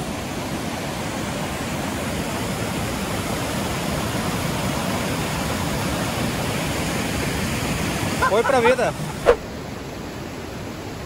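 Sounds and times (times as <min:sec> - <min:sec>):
rushing water of rapids: 0:00.0 - 0:11.0.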